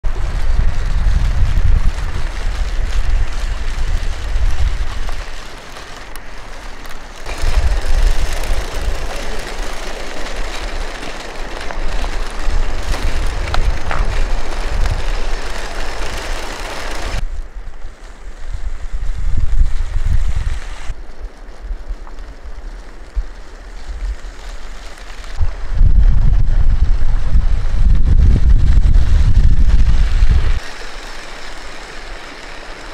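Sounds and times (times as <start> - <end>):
plastic tracks crunching over stones: 0.0 - 32.9
wind buffeting microphone: 0.0 - 32.9.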